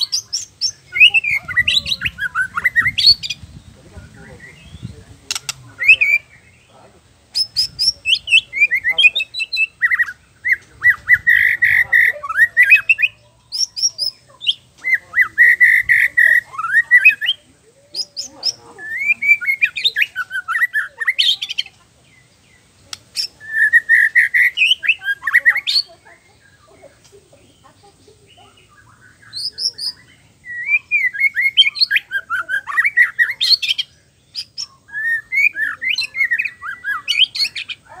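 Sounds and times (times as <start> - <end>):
songbird singing: 0.0 - 38.0.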